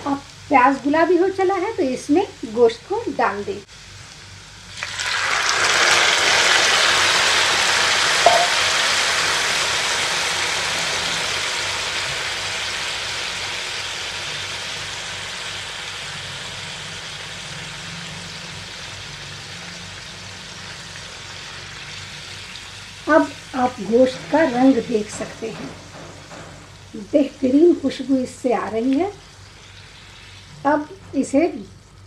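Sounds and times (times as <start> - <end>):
meat sizzling in hot oil: 0.0 - 30.9.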